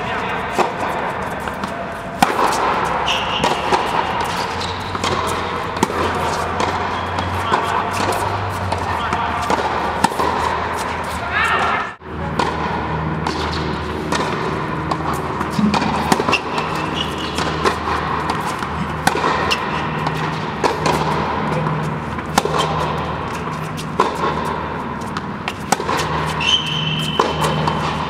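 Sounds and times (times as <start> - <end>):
tennis balls struck and bouncing: 0.0 - 28.0.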